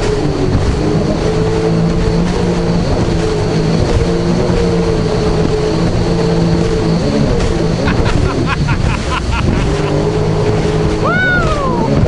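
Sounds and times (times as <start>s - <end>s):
jet ski engine running: 0.0s - 12.0s
rushing water: 0.0s - 12.0s
wind noise: 0.0s - 12.0s.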